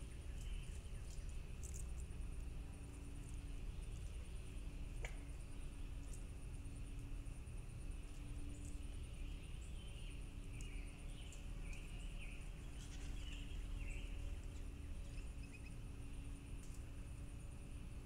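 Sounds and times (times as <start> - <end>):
small birds chirping: 0.0 - 7.1, 8.0 - 16.9
high insect drone: 0.0 - 18.0
low outdoor rumble: 0.0 - 18.0.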